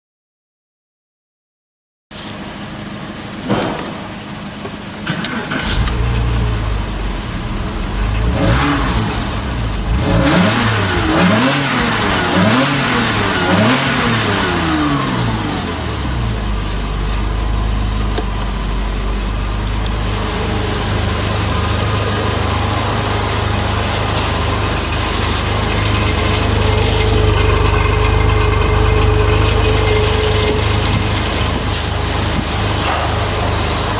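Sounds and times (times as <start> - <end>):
car engine idling and revving: 2.4 - 33.9.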